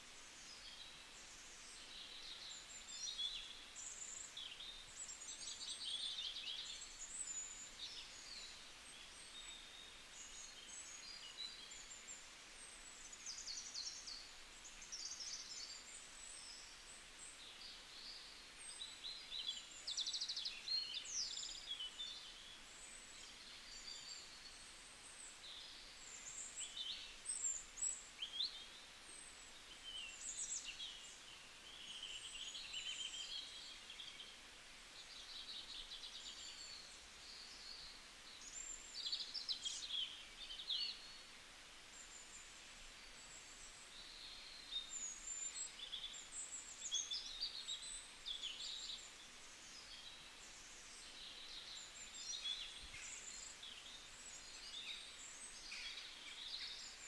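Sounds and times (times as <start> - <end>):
faint steady hiss: 0.0 - 57.0
small birds chirping: 0.0 - 57.0.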